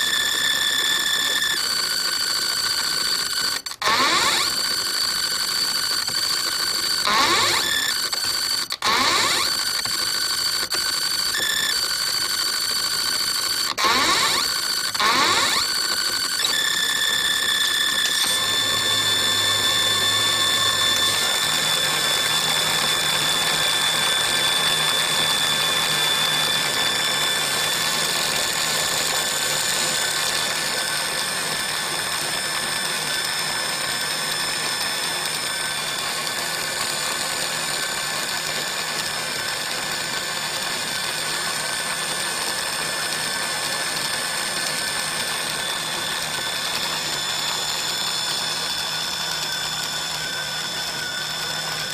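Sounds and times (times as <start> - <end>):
small electric motor whining: 0.0 - 51.9.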